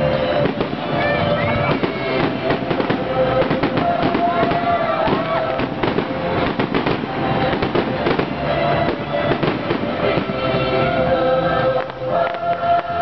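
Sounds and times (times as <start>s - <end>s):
fireworks bangs and crackles: 0.0s - 11.1s
music playing: 0.0s - 13.0s.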